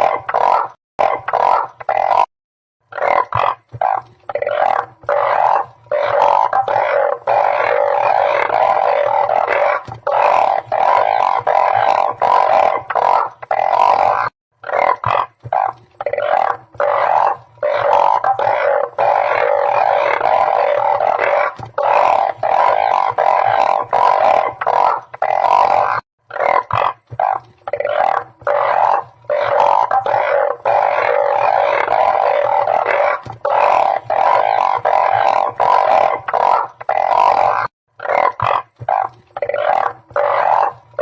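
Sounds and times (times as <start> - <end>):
frogs calling in chorus: 0.0 - 41.0.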